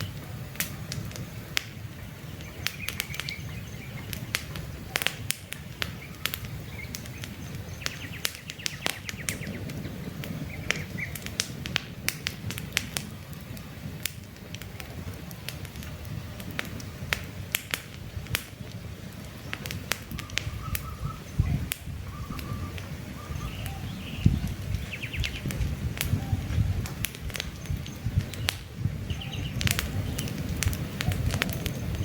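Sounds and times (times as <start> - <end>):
birds chirping: 0.0 - 11.6, 16.7 - 32.0
campfire crackling and popping: 0.0 - 32.0.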